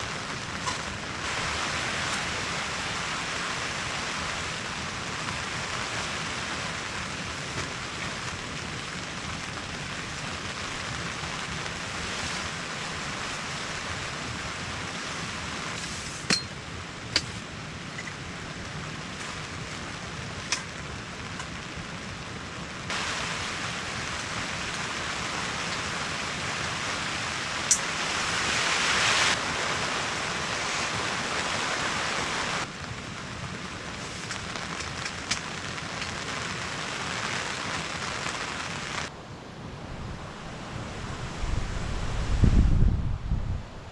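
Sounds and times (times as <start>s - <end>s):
steady rain falling: 0.0s - 39.2s.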